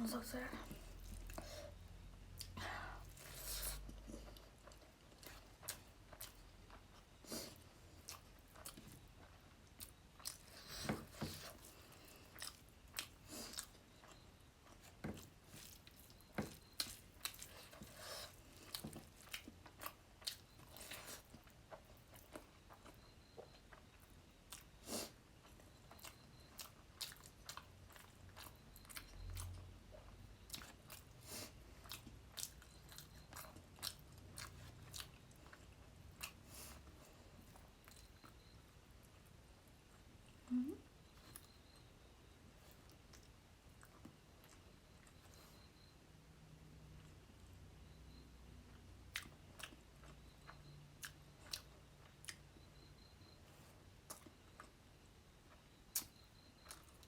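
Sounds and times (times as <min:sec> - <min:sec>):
person chewing food: 0:00.6 - 0:46.0, 0:46.9 - 0:57.0.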